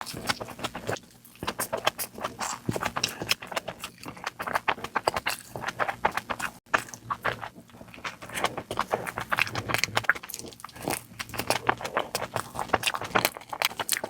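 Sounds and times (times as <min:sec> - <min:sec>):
crunchy food chewing: 0:00.0 - 0:14.0.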